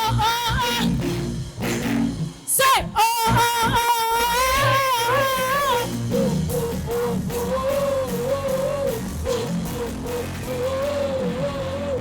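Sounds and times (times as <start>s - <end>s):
live worship band music: 0.0s - 12.0s.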